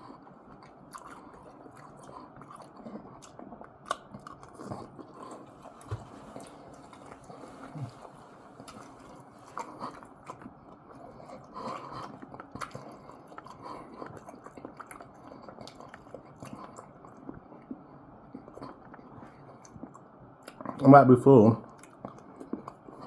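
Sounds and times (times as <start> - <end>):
person chewing food: 0.0 - 20.9, 21.6 - 23.0.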